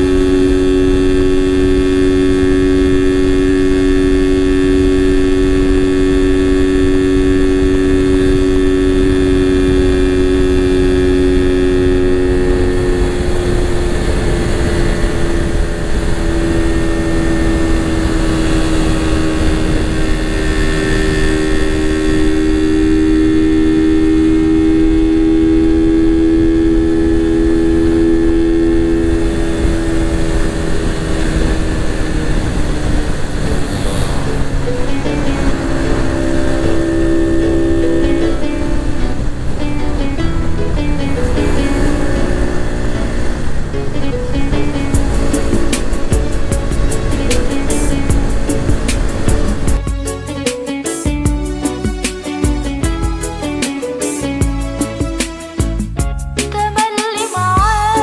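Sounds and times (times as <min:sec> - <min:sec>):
wind rumble on microphone: 0:00.0 - 0:49.8
motorcycle engine running: 0:00.0 - 0:50.0, 0:51.1 - 0:53.8.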